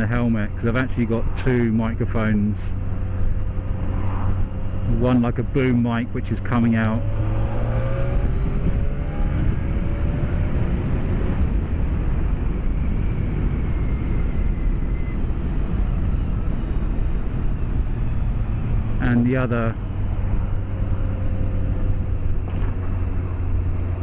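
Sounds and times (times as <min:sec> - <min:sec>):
wind rush in helmet: 0:00.0 - 0:24.0.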